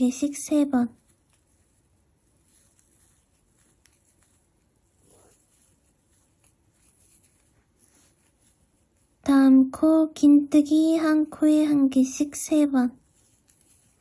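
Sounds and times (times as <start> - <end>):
crochet hook rustling yarn: 0.0 - 14.0.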